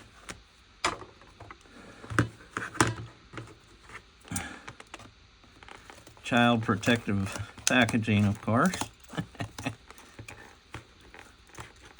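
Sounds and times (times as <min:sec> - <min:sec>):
plastic packaging handled: 0:00.9 - 0:11.9.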